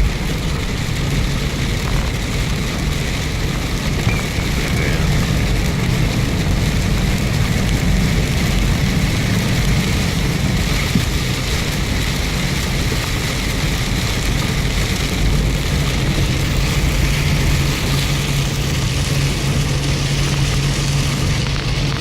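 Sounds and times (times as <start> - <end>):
low engine hum: 0.0 - 22.0
rain hiss and wet road noise: 0.0 - 22.0.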